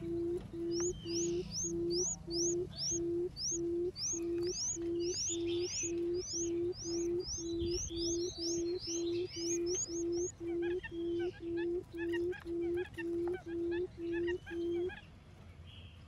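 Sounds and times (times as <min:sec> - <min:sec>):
high quick chirps: 0:00.0 - 0:14.9
buttonquail booming hoot call: 0:00.0 - 0:15.0.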